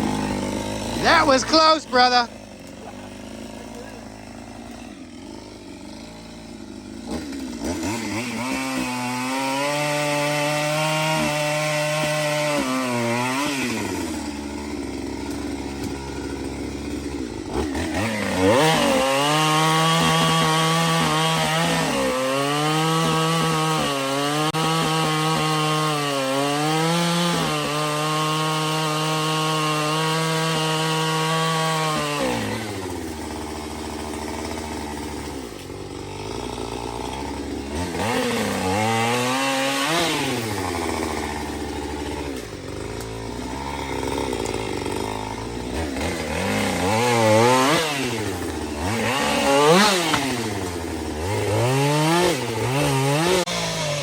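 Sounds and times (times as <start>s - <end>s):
chainsaw cutting wood: 0.0s - 54.0s
chainsaw idling: 0.0s - 54.0s.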